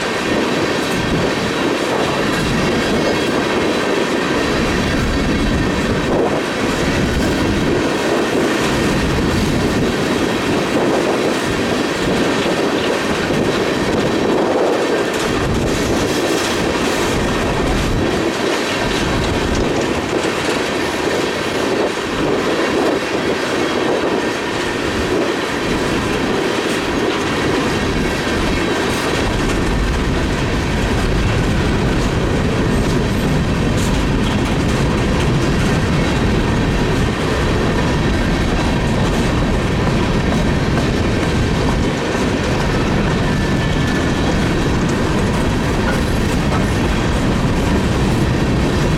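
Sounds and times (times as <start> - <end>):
freight train wheels rumbling: 0.0 - 48.9.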